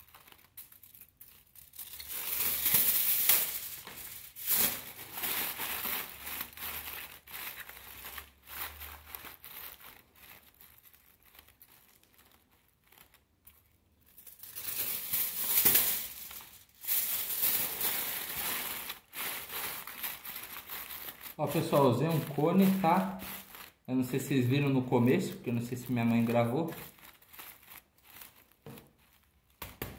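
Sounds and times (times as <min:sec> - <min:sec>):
aluminium foil crinkling: 0:00.0 - 0:29.6.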